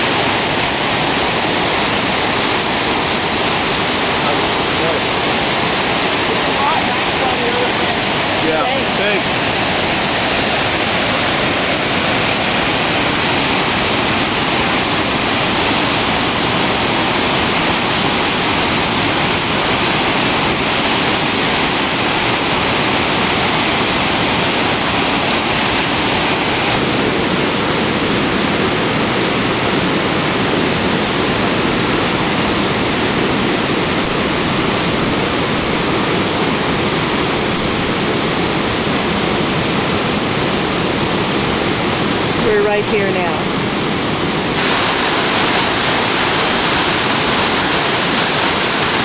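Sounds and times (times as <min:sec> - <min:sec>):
river rapids rushing: 0:00.0 - 0:49.0.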